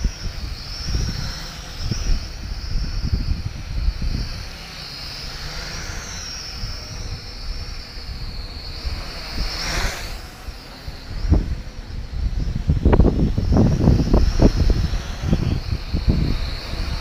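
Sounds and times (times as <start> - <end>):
quadcopter propellers whining: 0.0 - 17.0
wind buffeting microphone: 0.0 - 17.0.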